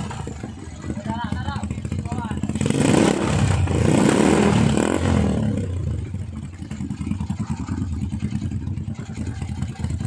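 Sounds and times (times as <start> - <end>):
motorcycle engine revving and idling: 0.0 - 10.0.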